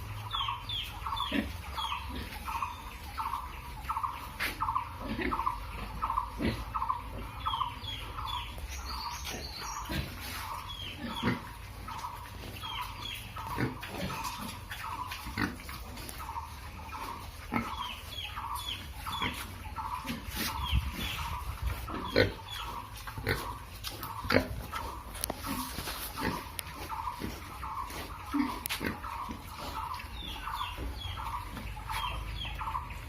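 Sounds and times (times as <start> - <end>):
pigs grunting: 0.0 - 8.4, 9.0 - 33.0
chirping calls: 0.0 - 33.0.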